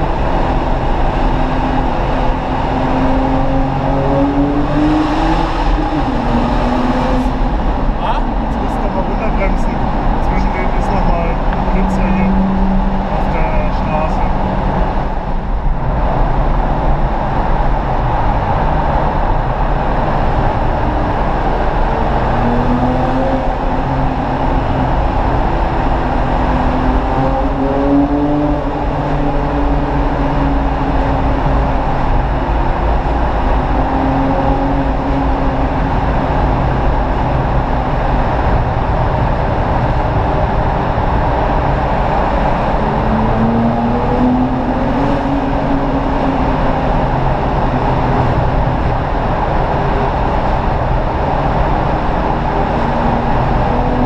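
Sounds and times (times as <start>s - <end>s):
engine drone rising in pitch: 0.0s - 54.0s.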